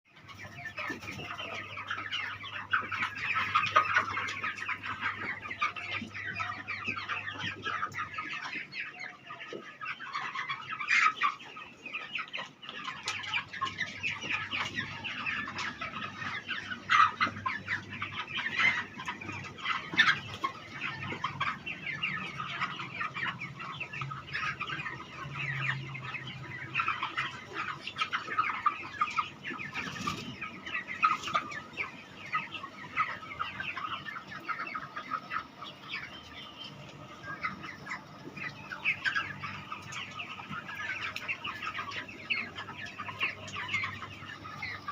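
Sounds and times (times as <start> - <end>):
chickens clucking: 0.1 - 44.9.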